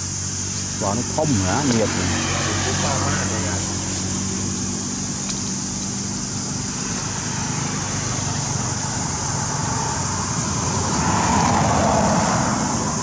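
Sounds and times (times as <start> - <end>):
constant high hiss: 0.0 - 13.0.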